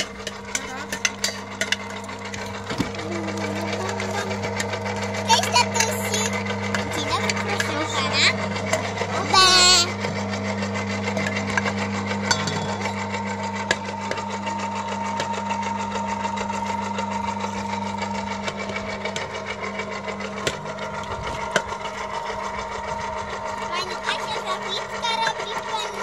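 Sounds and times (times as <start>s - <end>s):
electric strainer motor hum: 0.0s - 26.0s.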